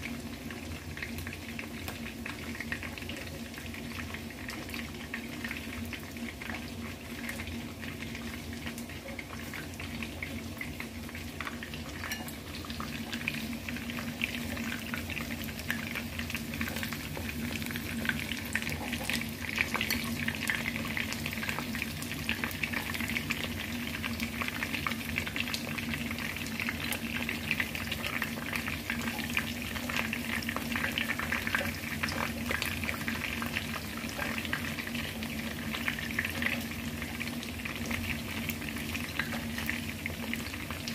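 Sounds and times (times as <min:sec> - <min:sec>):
chicken sizzling in hot oil: 0:00.0 - 0:40.9.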